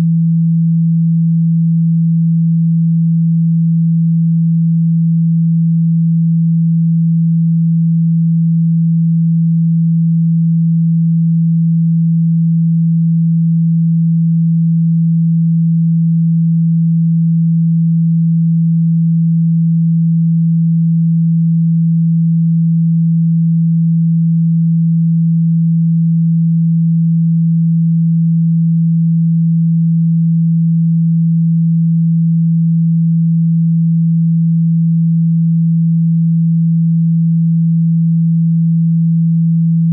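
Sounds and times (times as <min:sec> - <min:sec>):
low-pitched pure tone: 0:00.0 - 0:39.9.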